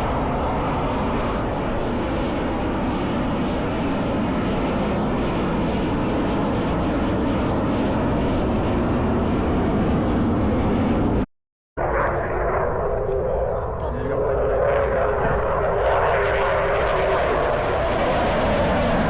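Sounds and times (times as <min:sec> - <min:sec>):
aircraft engines in flight: 0:00.0 - 0:19.0.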